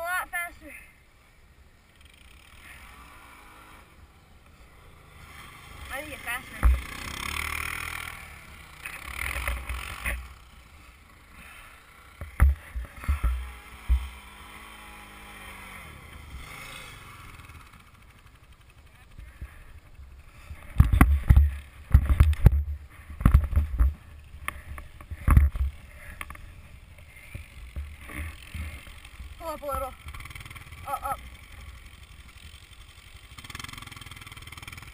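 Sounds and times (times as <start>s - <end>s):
atv engine running faintly: 0.0s - 34.9s
atv bumping and jolting: 4.7s - 34.9s.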